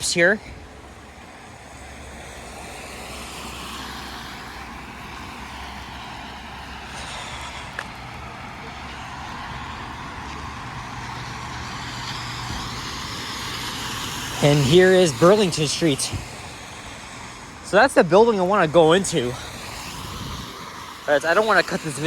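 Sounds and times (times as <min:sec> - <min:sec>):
low engine rumble: 0:00.0 - 0:22.0
tyres hissing on wet road: 0:00.0 - 0:22.0.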